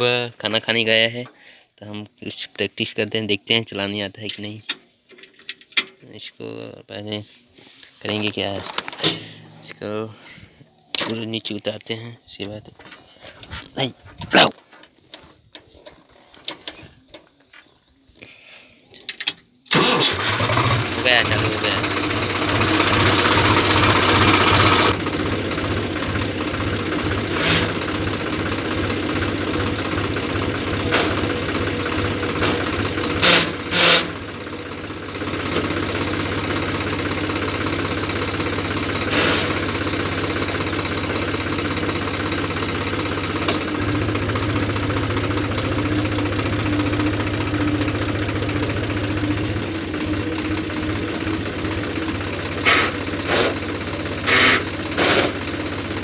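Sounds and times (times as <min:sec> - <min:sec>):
tractor engine humming: 0:00.0 - 0:17.7, 0:18.3 - 0:56.0.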